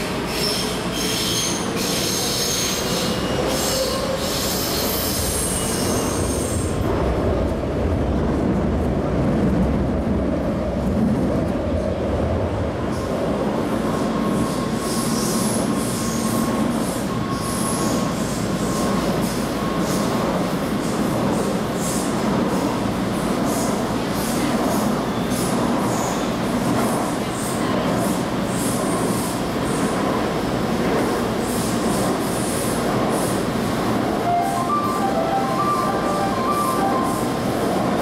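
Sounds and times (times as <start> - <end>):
rumble of wheels on rail: 0.0 - 38.0.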